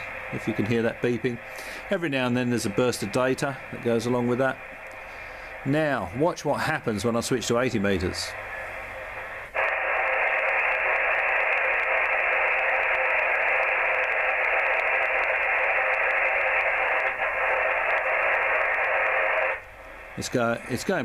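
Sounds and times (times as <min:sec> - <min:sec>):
radio static: 0:00.0 - 0:21.0.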